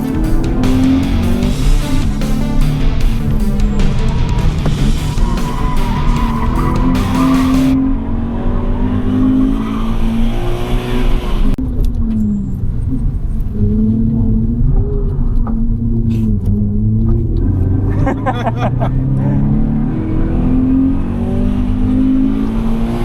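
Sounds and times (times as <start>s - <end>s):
race car engine revving: 0.0s - 11.6s, 12.2s - 23.0s.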